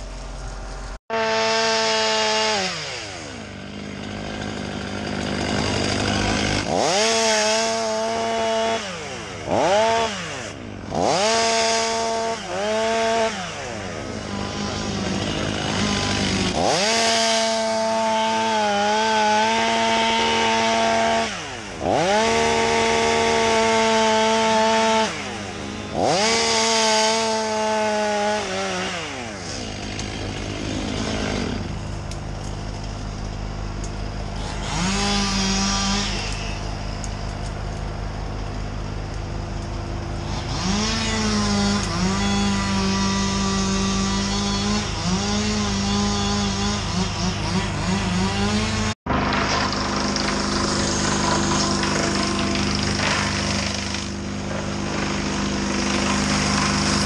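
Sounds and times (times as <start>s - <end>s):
chainsaw revving and cutting: 0.0s - 57.0s.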